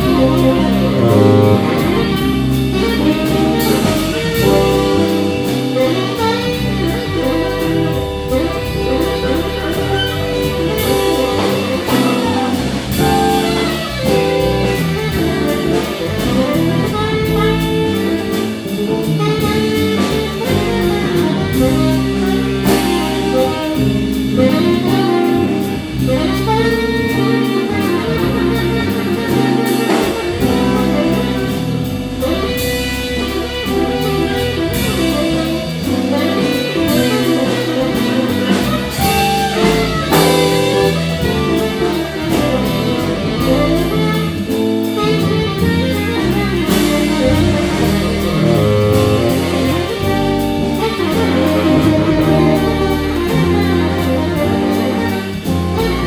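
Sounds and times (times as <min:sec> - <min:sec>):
drum kit keeping time: 0:00.0 - 0:56.0
jazz rhythm section: 0:00.0 - 0:56.0
tenor saxophone melody: 0:00.0 - 0:56.0.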